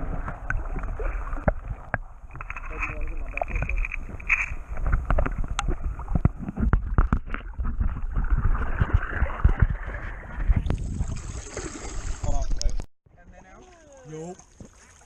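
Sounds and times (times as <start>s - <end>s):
knocks and splashes: 0.0s - 12.8s, 13.5s - 15.0s
wind rumbling on microphone: 0.0s - 12.8s
moving water: 0.0s - 15.0s.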